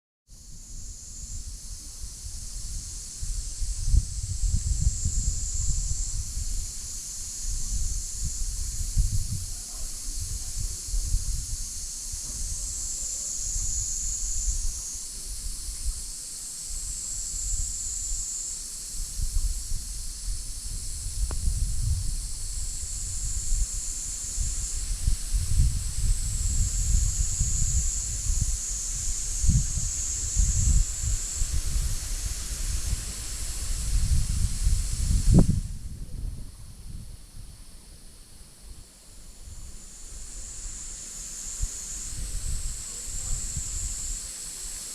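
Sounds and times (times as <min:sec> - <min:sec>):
insects droning: 0:00.3 - 0:44.9
wind rumbling on microphone: 0:00.3 - 0:44.9.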